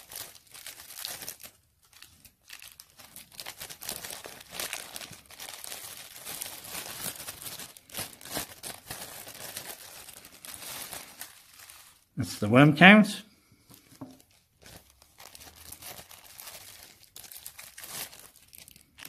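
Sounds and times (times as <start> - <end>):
plastic bags crinkling: 0.0 - 12.2, 13.6 - 19.0.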